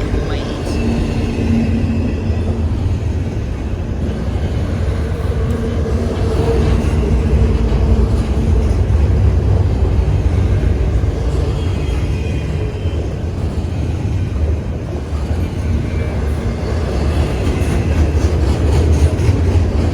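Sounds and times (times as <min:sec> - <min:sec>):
train rumbling past: 0:00.0 - 0:19.9.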